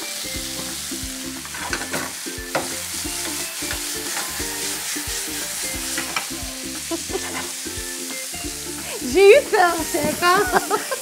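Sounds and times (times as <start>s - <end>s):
steaks sizzling in frying pan: 0.0s - 11.0s.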